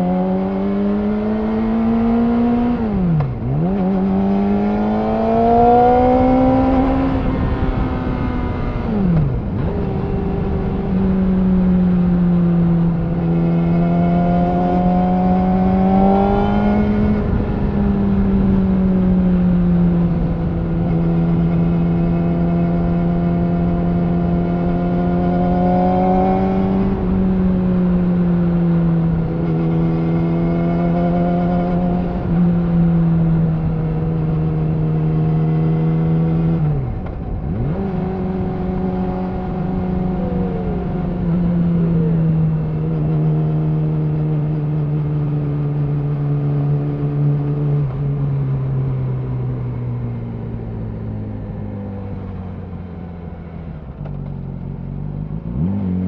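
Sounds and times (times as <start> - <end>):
motorcycle engine revving while riding: 0.0 - 56.0.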